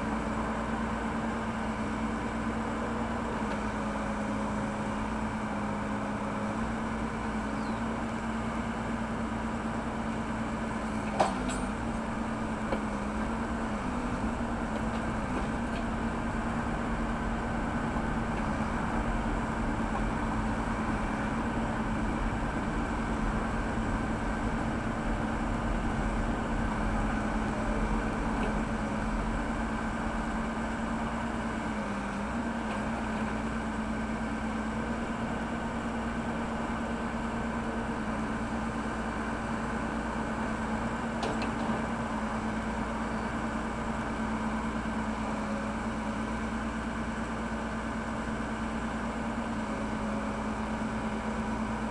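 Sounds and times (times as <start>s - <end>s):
backhoe diesel engine running: 0.0s - 51.9s.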